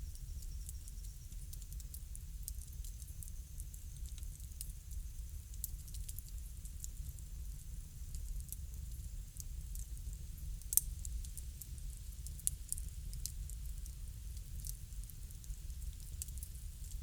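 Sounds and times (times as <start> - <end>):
wood fire crackling and popping: 0.1 - 17.0.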